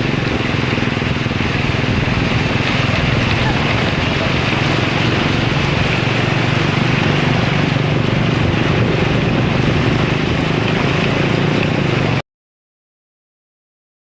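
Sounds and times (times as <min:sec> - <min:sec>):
engine running with low drone: 0:00.0 - 0:12.2.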